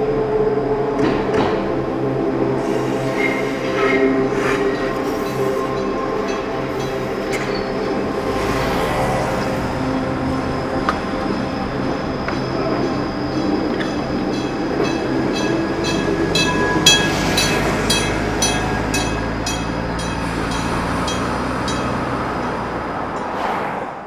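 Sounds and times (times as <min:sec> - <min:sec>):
tram rumbling past: 0:00.0 - 0:24.0.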